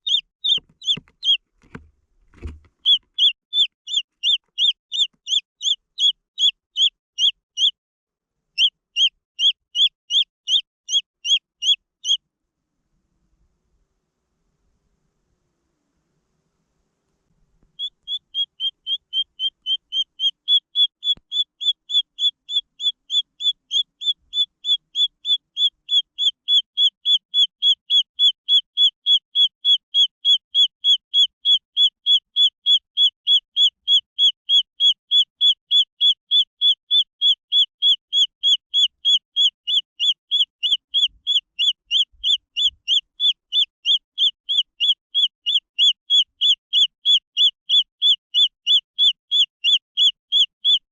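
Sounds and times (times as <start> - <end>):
chick peeping: 0.0 - 1.8, 2.4 - 7.8, 8.6 - 12.2, 17.7 - 50.8.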